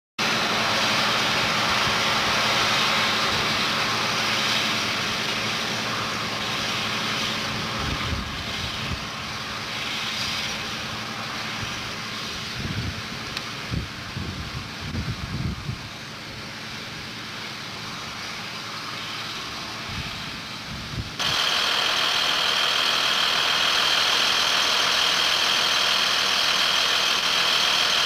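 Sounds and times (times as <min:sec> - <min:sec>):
strong steady hiss: 0:00.2 - 0:28.0
tractor diesel engine under load: 0:00.2 - 0:28.0.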